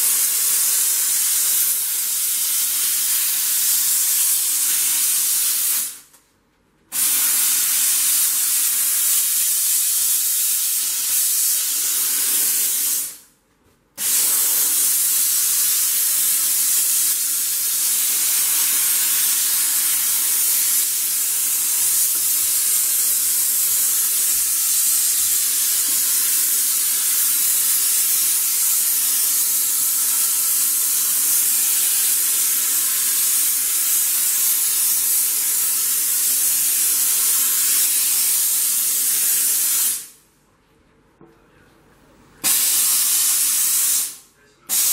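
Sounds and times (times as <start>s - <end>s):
steam cleaner hissing: 0.0s - 6.0s, 6.9s - 13.3s, 14.0s - 40.2s, 42.4s - 44.9s.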